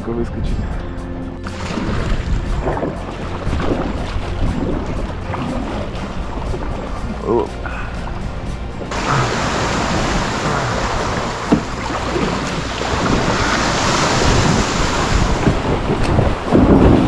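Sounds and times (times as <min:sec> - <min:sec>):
wind buffeting microphone: 0:00.0 - 0:17.0
sea waves washing ashore: 0:01.4 - 0:17.0.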